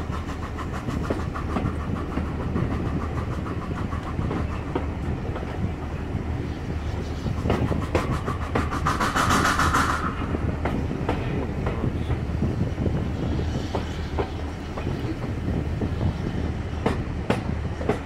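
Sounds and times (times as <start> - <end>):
hiss: 0.0 - 18.0
train running rumble: 0.0 - 18.0.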